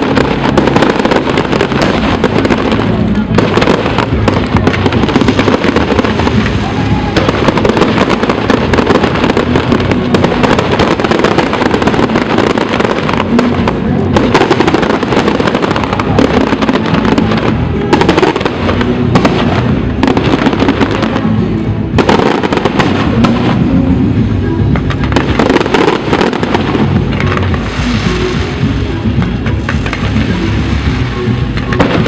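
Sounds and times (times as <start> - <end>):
fireworks bangs and crackles: 0.0 - 32.0
music playing: 0.0 - 32.0.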